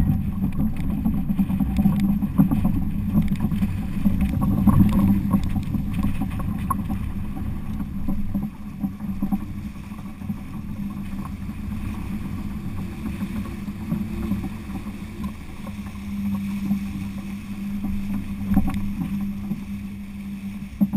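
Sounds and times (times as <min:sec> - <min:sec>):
steady low hum: 0:00.0 - 0:20.9
water rushing along hull: 0:00.0 - 0:20.9.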